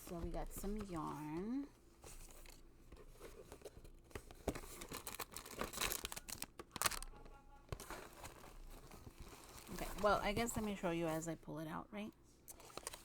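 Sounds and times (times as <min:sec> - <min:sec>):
packaging crinkling and rustling: 0:00.0 - 0:11.2, 0:12.5 - 0:13.0.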